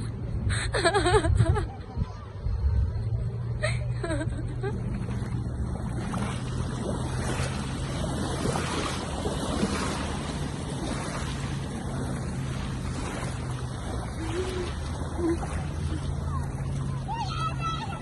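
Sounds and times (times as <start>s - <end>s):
water noise: 0.0s - 18.0s.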